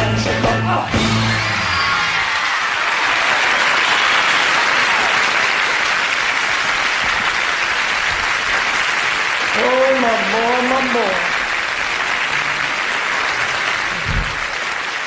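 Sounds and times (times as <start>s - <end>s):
audience applauding and cheering: 0.9s - 15.0s.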